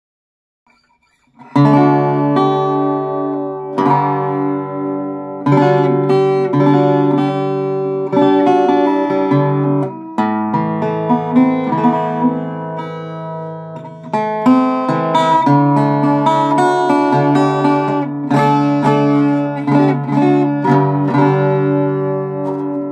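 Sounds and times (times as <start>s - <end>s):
acoustic guitar chords: 0.7s - 22.9s.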